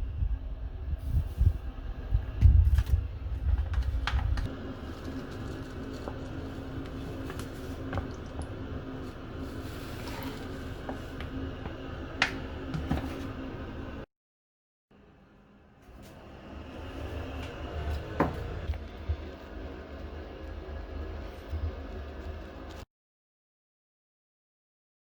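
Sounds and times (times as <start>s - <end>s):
washer-dryer motor hum: 0.1s - 14.0s, 15.8s - 22.8s.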